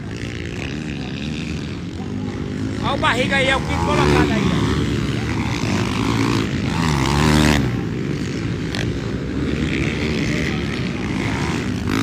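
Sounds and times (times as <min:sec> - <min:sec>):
drone of other bikes: 0:00.0 - 0:12.0
motocross bike revving hard: 0:00.0 - 0:12.0.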